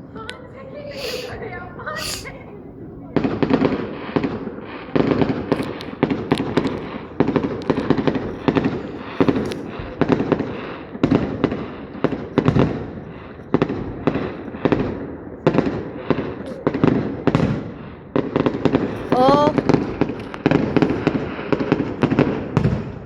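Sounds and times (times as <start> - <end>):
fireworks crackling pops: 0.0 - 2.4, 3.2 - 23.0
fireworks booming: 0.0 - 23.0.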